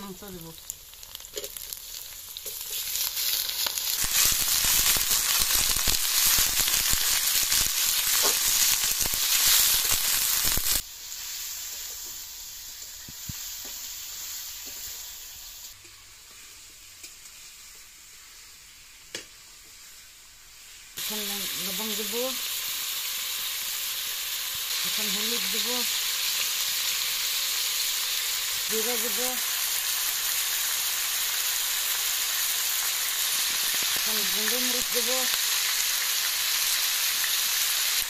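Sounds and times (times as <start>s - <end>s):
chicken sizzling in hot oil: 0.0s - 38.0s.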